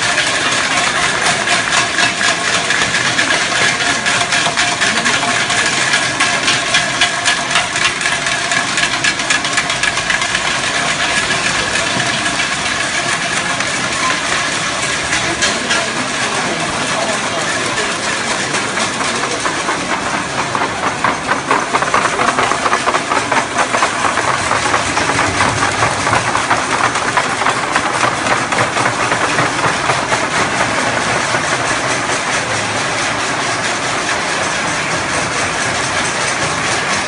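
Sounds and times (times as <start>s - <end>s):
people clapping: 0.0s - 37.0s.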